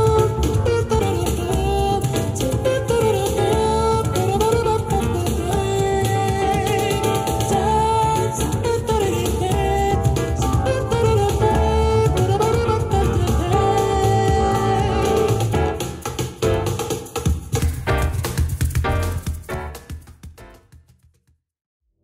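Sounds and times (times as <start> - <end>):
jazz music with cajon: 0.0 - 20.7.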